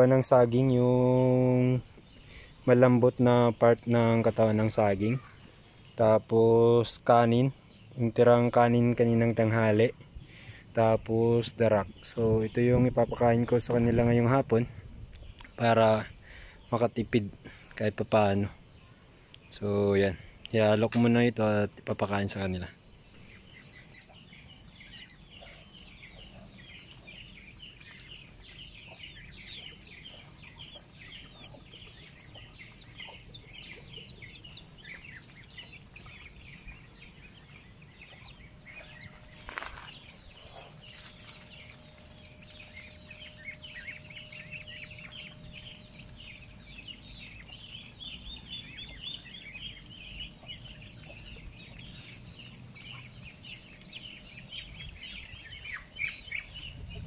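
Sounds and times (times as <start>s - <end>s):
poultry chirping and clucking: 0.0s - 57.0s.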